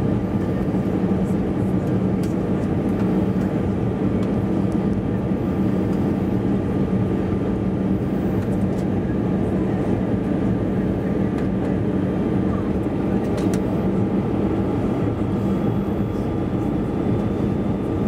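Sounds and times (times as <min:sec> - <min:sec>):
jet engines humming: 0:00.0 - 0:18.0
rush of air in cabin: 0:00.0 - 0:18.0.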